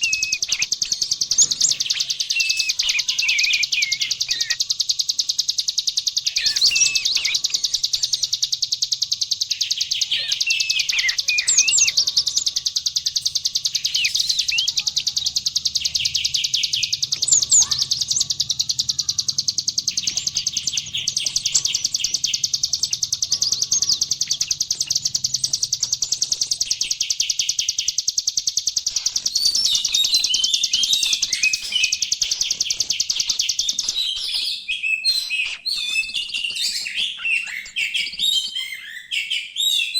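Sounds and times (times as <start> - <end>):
songbirds trilling and whistling: 0.0 - 39.9.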